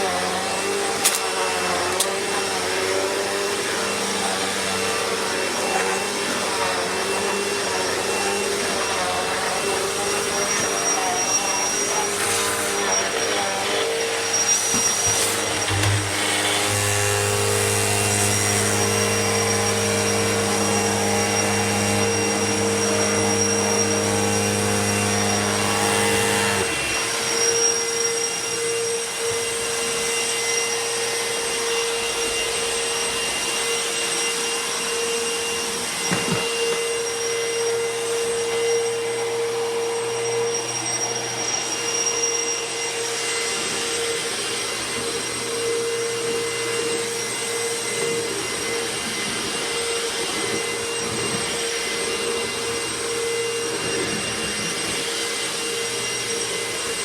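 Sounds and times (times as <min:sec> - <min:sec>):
vacuum cleaner whining: 0:00.0 - 0:57.0.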